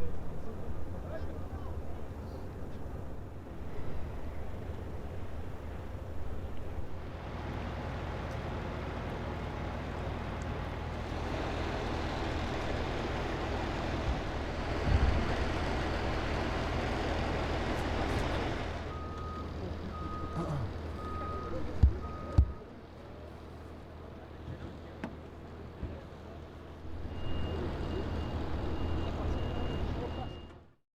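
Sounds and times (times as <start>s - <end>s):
engine humming: 0.1s - 30.6s.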